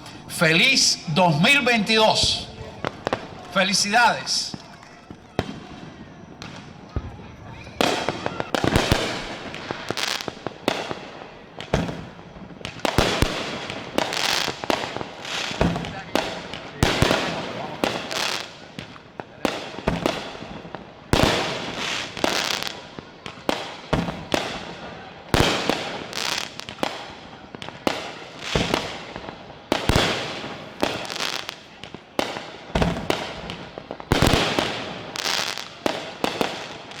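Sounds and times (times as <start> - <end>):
fireworks bangs with echo: 0.0 - 37.0.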